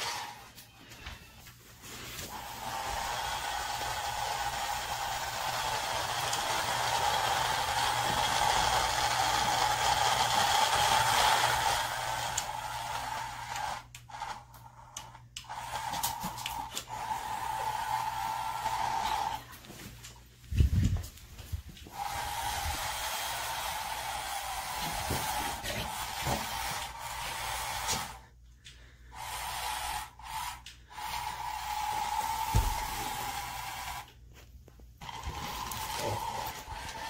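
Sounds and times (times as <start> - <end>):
toy electric motor whirring: 0.0 - 0.8, 1.8 - 19.6, 21.9 - 34.1, 35.0 - 37.0.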